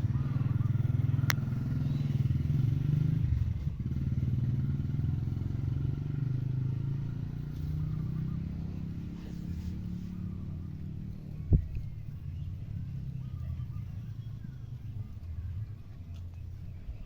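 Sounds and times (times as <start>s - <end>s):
engine pulsing hum: 0.0s - 17.0s.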